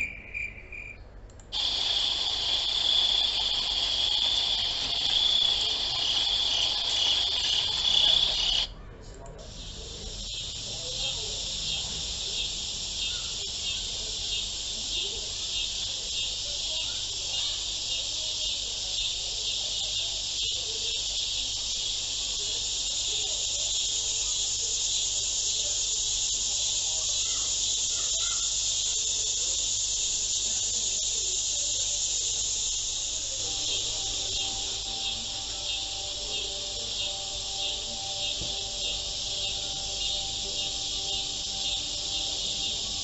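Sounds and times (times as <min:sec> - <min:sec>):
high-pitched hiss: 0:01.5 - 0:08.7, 0:09.4 - 0:43.0.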